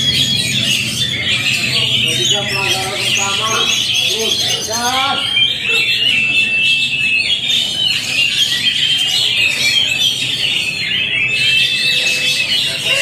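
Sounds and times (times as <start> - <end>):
birds whistling and chirping: 0.0 - 13.0.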